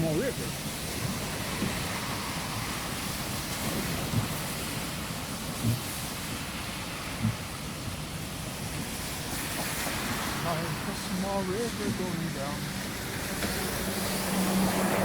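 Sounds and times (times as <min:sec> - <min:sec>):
rain: 0:00.0 - 0:15.0
tyres hissing on wet street: 0:00.0 - 0:15.0.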